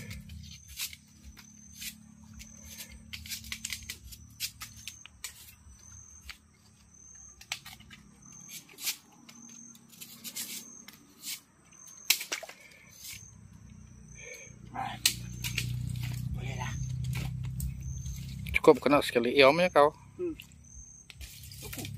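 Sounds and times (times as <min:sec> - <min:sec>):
machete scraping and cutting: 0:00.0 - 0:13.4, 0:14.8 - 0:18.6, 0:21.1 - 0:21.9
high insect drone: 0:00.0 - 0:21.9.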